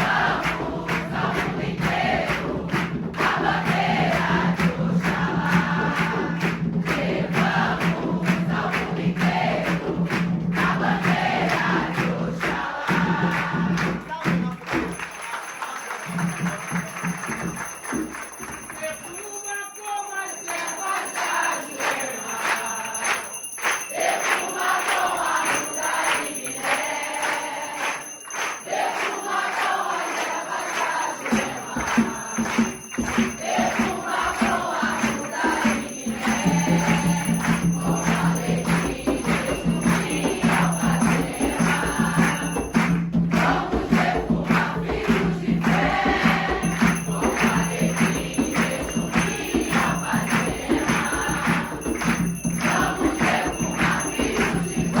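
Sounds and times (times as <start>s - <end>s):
group singing: 0.0s - 14.1s, 20.1s - 55.0s
jingling shaker percussion: 0.0s - 55.0s.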